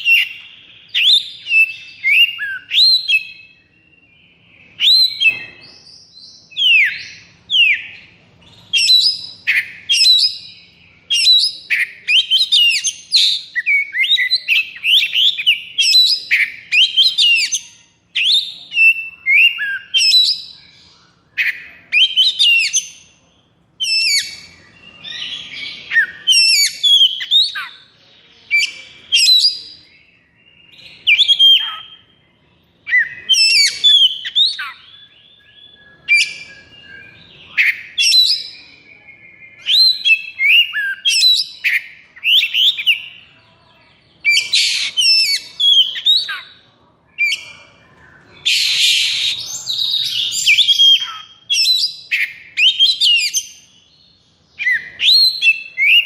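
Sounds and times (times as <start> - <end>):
songbird singing loud whistles: 0.0 - 23.1, 23.8 - 27.8, 28.5 - 43.2, 44.2 - 46.6, 47.2 - 53.9, 54.6 - 56.0.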